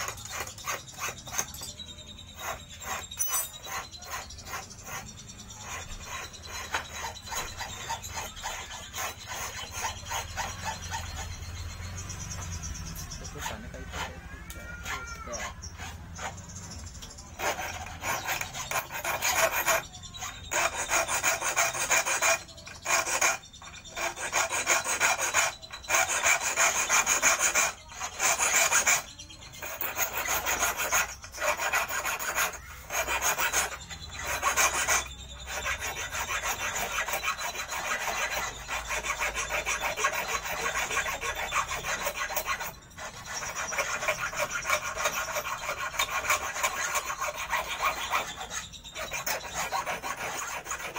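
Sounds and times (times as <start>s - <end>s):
hand file rasping on steel wire: 0.0s - 50.9s.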